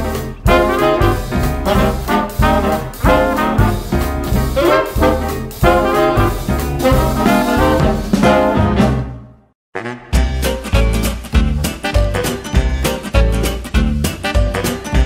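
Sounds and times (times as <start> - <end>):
swing music with brass: 0.0 - 15.0.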